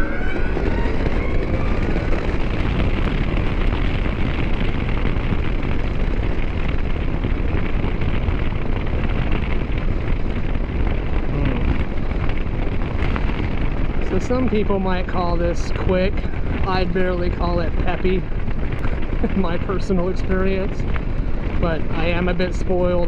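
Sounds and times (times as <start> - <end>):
wind buffeting the microphone: 0.0 - 23.0.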